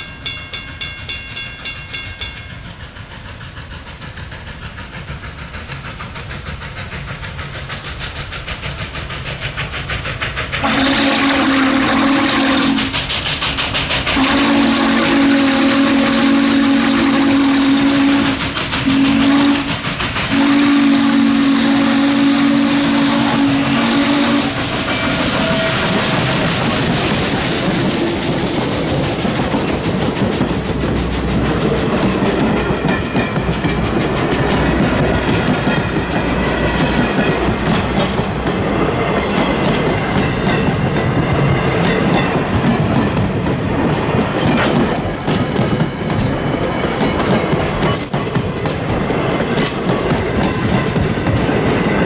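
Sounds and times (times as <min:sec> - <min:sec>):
steam locomotive hiss: 0:00.0 - 0:52.0
train wheels clickety-clacking: 0:00.0 - 0:52.0.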